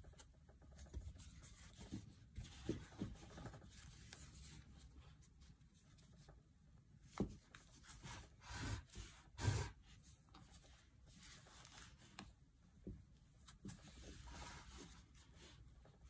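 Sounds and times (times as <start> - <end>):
yarn rubbing and rustling: 0.0 - 6.5, 7.1 - 16.0.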